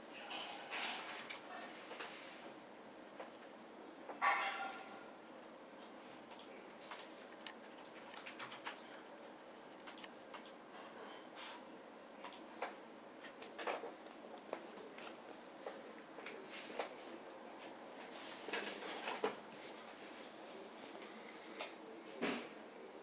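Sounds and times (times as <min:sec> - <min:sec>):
low room hiss: 0:00.0 - 0:23.0.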